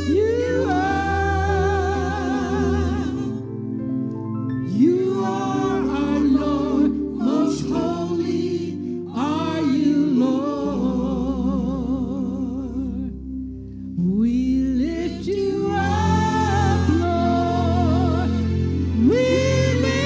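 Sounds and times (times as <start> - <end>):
singers holding long notes: 0.0 - 12.4, 15.1 - 20.0
instrumental backing: 0.0 - 20.0.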